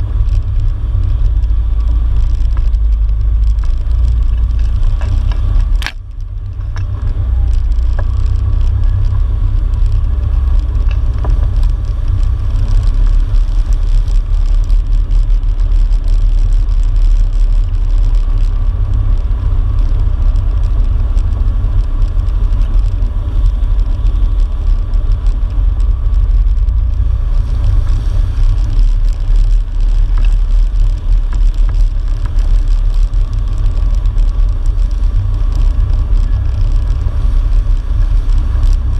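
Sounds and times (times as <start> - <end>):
off-road vehicle engine: 0.0 - 38.9.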